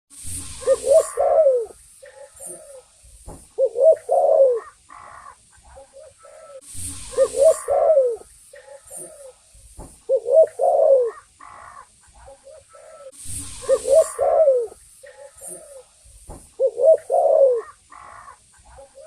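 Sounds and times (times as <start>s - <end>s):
dove cooing: 0.4s - 9.4s, 10.0s - 19.0s.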